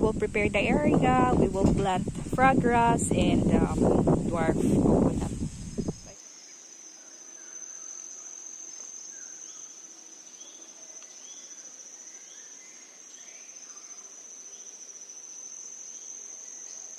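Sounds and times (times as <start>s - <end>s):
shrill insect chorus: 0.0s - 16.9s.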